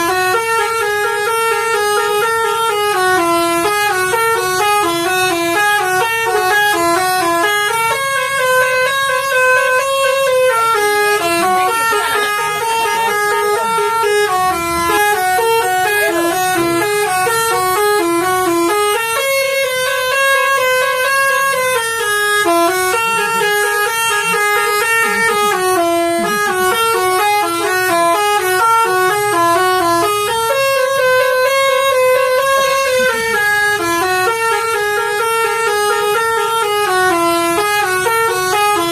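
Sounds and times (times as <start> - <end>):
multi-tone bus horn melody: 0.0 - 38.9.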